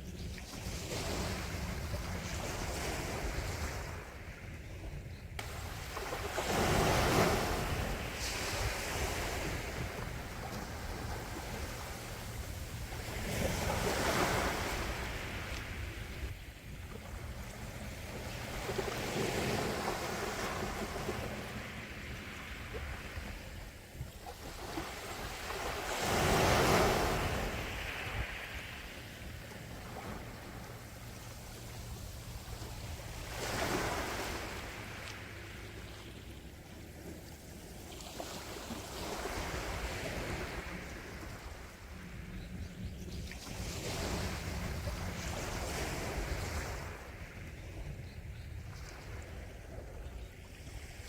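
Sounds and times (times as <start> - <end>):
gentle sea waves washing ashore: 0.0 - 51.0
large waves breaking: 0.5 - 4.8, 5.4 - 42.2, 43.4 - 47.5.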